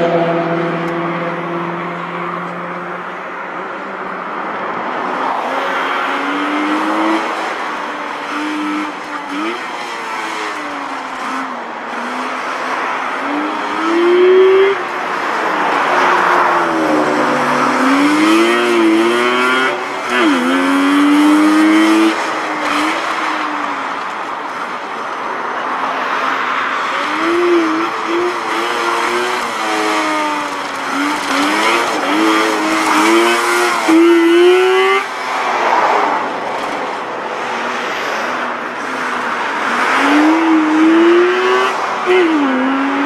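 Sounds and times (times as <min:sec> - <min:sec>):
car engine revving: 0:04.9 - 0:43.0.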